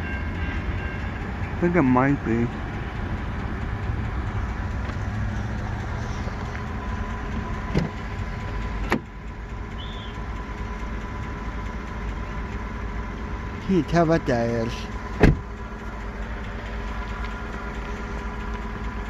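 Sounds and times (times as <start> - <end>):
road vehicles rumbling: 0.0 - 19.0.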